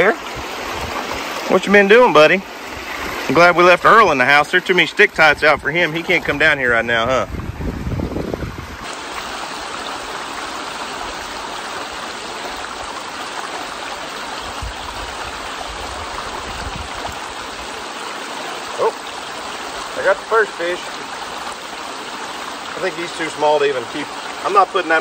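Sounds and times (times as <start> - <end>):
creek water running over rocks: 0.0 - 25.0.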